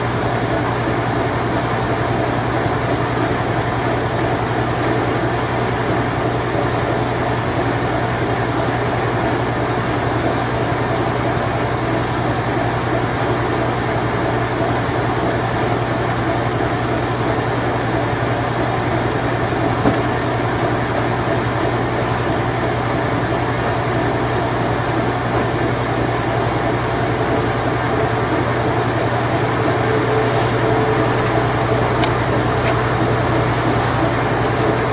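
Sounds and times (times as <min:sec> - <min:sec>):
washing machine spinning: 0:00.0 - 0:34.9.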